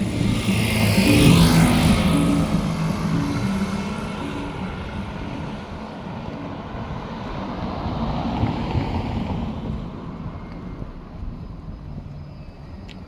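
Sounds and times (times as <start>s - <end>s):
motor low hum: 0.0s - 13.0s
wind on microphone: 0.0s - 13.0s.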